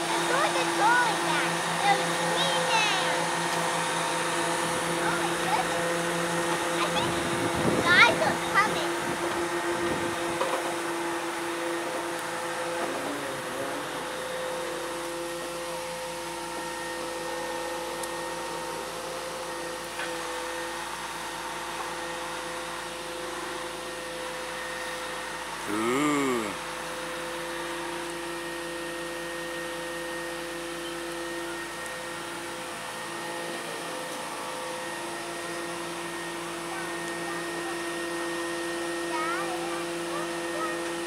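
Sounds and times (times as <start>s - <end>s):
hydraulic crane engine whine: 0.0s - 41.0s.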